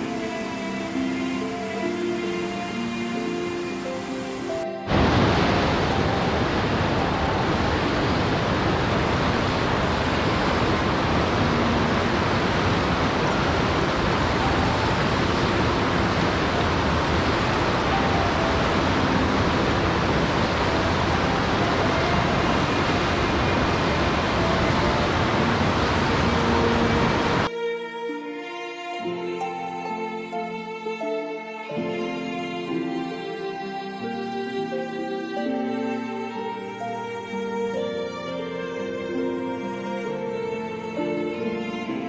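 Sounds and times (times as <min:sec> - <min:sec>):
rushing water: 0:00.0 - 0:27.5, 0:28.4 - 0:42.0.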